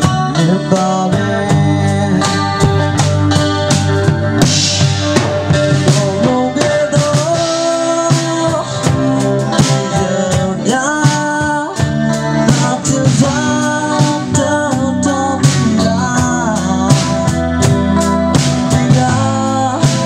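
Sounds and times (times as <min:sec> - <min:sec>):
man singing into a microphone: 0:00.0 - 0:03.7, 0:05.5 - 0:20.0
drum kit steady beat: 0:00.0 - 0:20.0
electric guitar: 0:00.0 - 0:20.0.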